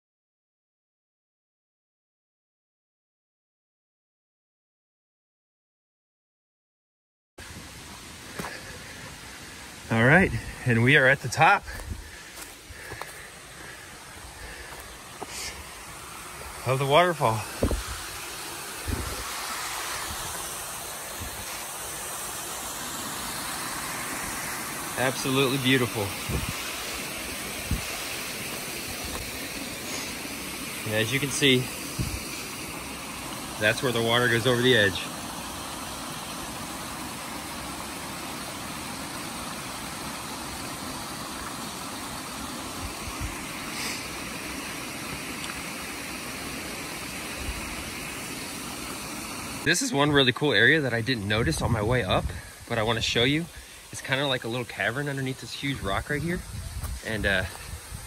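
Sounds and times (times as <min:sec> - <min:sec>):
waterfall rushing hiss: 0:07.4 - 0:58.0.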